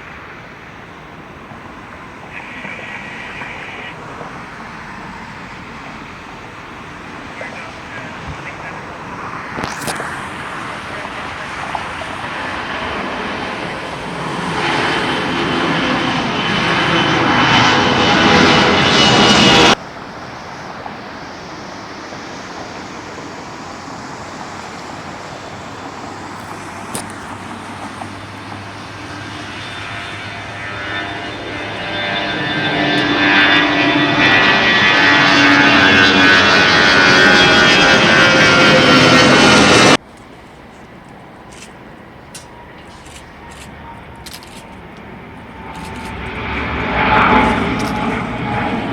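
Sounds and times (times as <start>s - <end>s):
jet engine whine: 0.0s - 48.9s
jet engines roaring: 0.0s - 48.9s.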